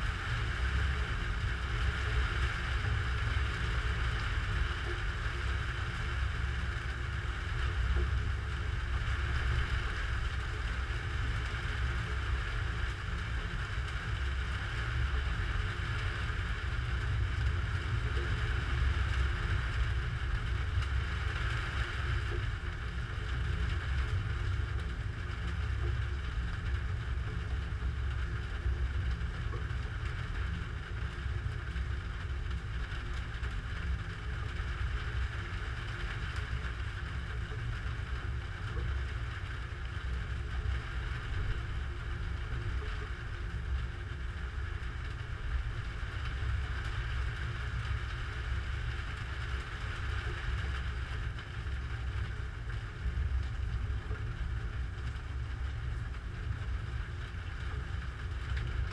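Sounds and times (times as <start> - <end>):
muffled storm rumble and hiss: 0.0 - 58.9.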